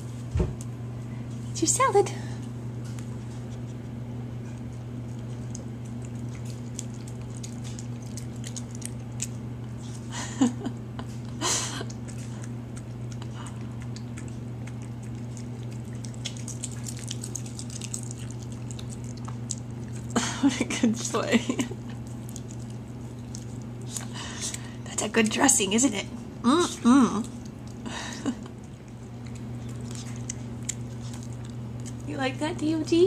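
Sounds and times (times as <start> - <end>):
steady low hum: 0.0 - 33.0
dog chewing greens: 2.4 - 10.2, 11.0 - 33.0.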